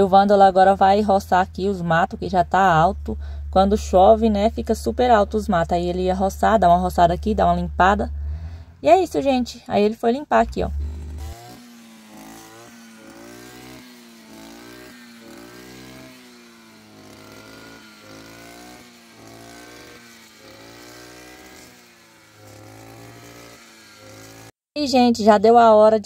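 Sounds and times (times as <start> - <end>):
brush cutter engine cutting weeds: 0.0 - 24.6.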